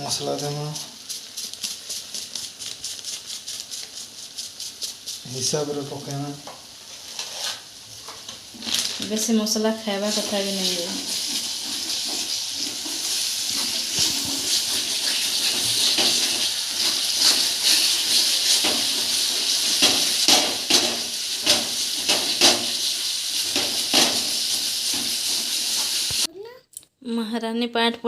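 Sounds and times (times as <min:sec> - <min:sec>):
frying in hot oil sizzling: 0:00.0 - 0:26.3
sharp crackles of frying: 0:00.0 - 0:26.3.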